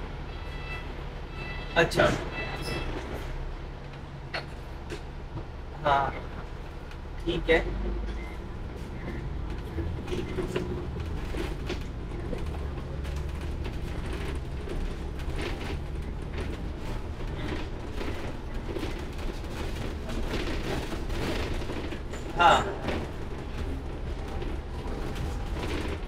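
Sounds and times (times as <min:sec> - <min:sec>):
bus body creaks and rattles: 0:00.0 - 0:26.0
bus engine and road rumble: 0:00.0 - 0:26.0.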